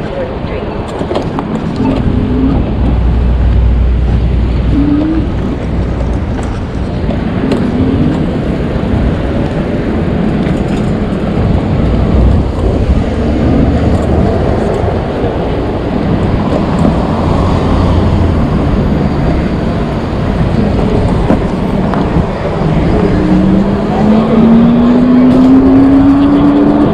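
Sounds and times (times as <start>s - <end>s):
road and traffic noise: 0.0s - 26.9s
wind buffeting microphone: 0.0s - 26.9s.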